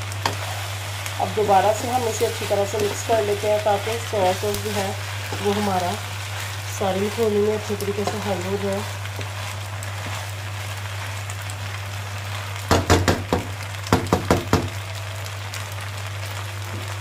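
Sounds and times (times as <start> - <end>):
wooden spatula stirring in pan: 0.0 - 14.8
faint sizzle: 0.0 - 17.0.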